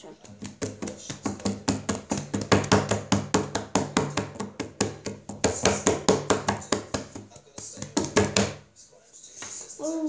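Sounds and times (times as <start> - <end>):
rapid knocks or taps: 0.2 - 8.6.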